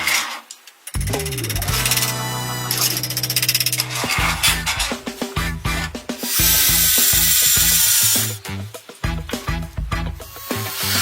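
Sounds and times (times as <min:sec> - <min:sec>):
background music: 0:01.0 - 0:11.0.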